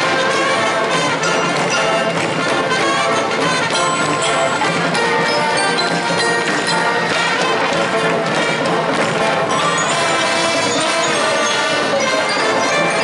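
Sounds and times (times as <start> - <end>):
marching band brass: 0.0 - 13.0
marching band percussion: 0.0 - 13.0.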